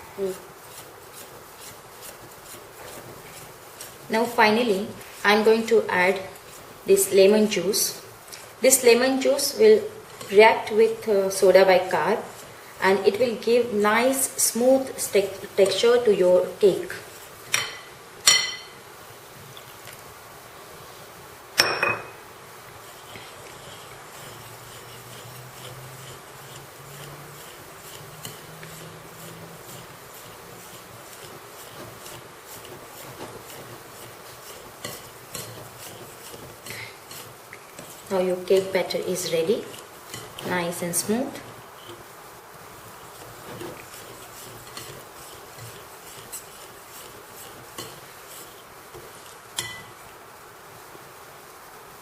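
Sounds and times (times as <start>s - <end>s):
batter stirred in a bowl: 0.0s - 18.8s, 22.3s - 50.2s
background hiss: 0.0s - 52.0s.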